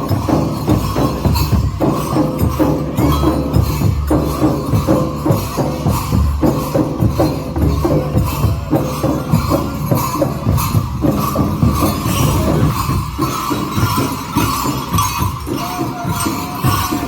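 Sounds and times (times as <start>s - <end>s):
dance music with drum beat: 0.0s - 17.0s.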